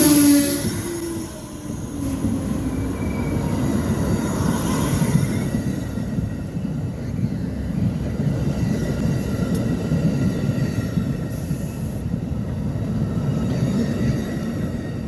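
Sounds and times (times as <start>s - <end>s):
train rolling on rails: 0.0s - 15.0s.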